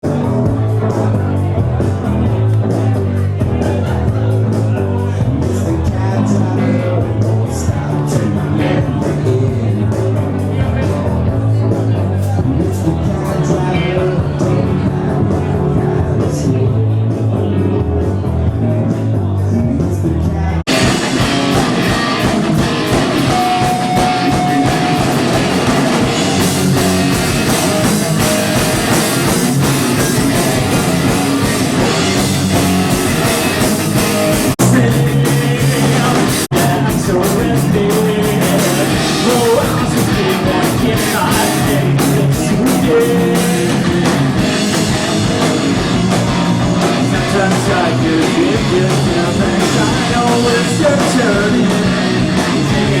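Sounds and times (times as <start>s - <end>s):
drums and cymbals: 0.0s - 53.0s
electric guitars: 0.0s - 53.0s
low bass-heavy intro: 0.0s - 53.0s
rock band playing live: 0.0s - 53.0s.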